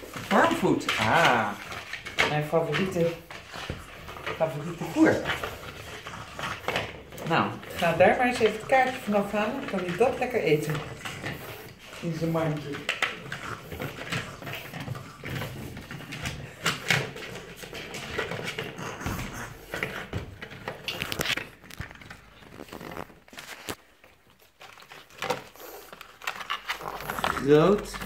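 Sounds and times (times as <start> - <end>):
packaging rustling: 0.0 - 28.0.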